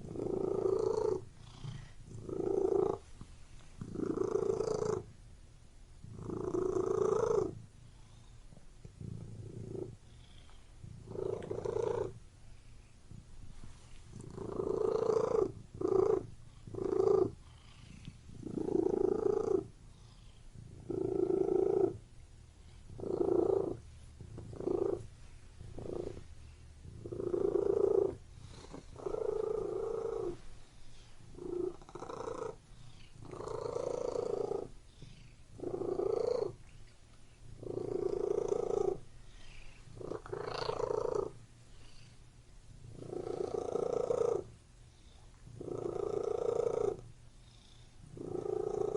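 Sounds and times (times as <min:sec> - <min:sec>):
cat purring: 0:00.0 - 0:05.2, 0:06.0 - 0:48.9.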